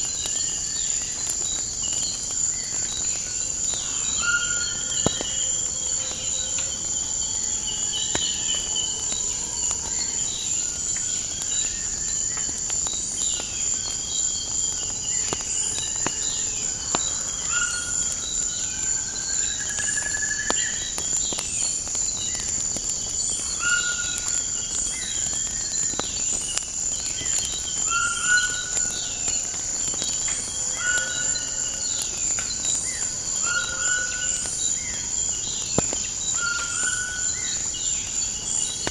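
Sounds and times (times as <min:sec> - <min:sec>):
insect drone with chirps: 0:00.0 - 0:38.9
wood fire crackling: 0:00.0 - 0:38.9.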